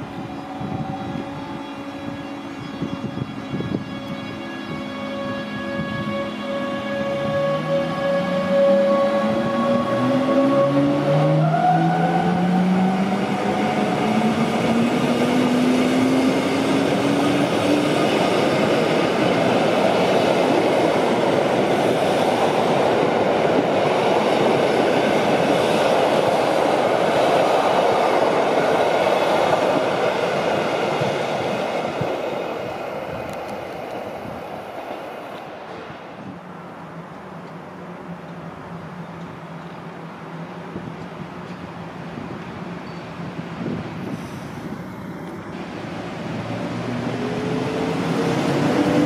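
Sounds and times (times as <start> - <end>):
electric locomotive whine: 0.0 - 49.0.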